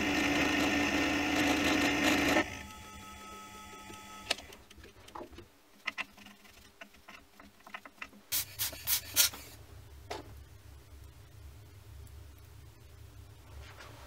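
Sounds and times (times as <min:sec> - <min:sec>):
faint machine hum: 0:00.0 - 0:14.0.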